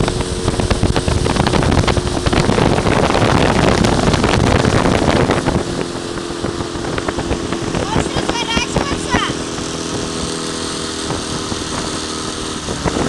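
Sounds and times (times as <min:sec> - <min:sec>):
vehicle engine drone: 0:00.0 - 0:13.0
wind buffeting microphone: 0:00.0 - 0:13.0.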